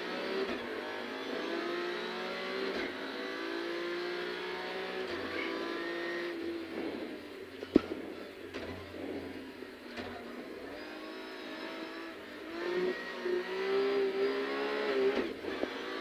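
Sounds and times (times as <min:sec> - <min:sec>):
rally car engine: 0:00.0 - 0:16.0.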